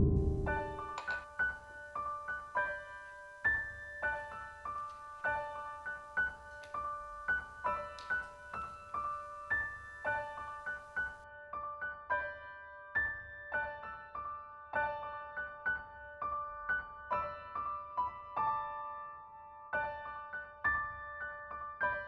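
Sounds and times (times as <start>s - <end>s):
soft solo piano: 0.0s - 22.0s.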